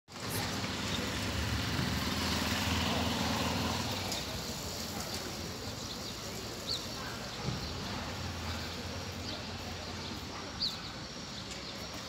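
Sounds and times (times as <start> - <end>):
vehicle engine humming: 0.1 - 12.0.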